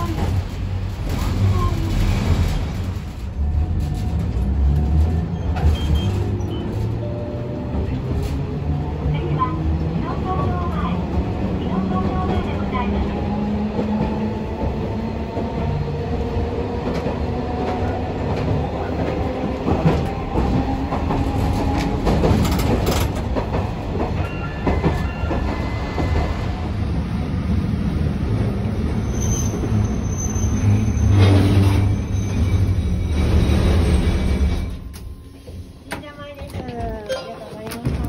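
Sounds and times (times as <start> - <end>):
streetcar motors humming and whining: 0.0 - 38.0.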